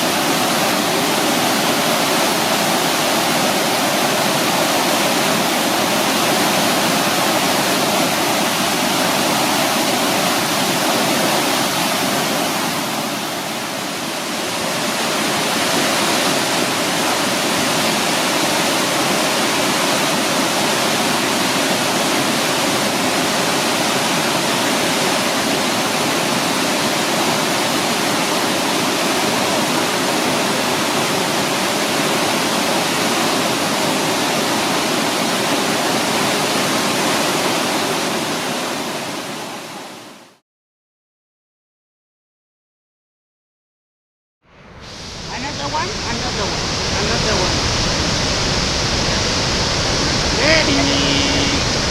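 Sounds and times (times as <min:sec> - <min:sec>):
waterfall roaring: 0:00.0 - 0:40.3, 0:44.6 - 0:51.9.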